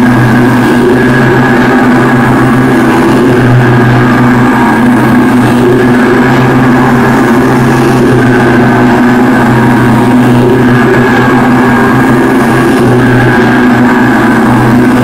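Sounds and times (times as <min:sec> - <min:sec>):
machine drone with low hum: 0:00.0 - 0:15.0.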